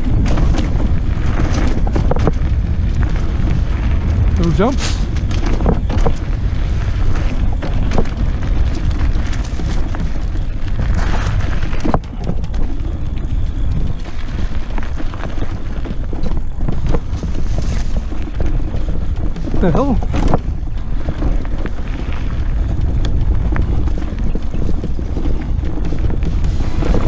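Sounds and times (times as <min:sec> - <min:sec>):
bike knocks and rattles: 0:00.0 - 0:27.0
wind buffeting microphone: 0:00.0 - 0:27.0.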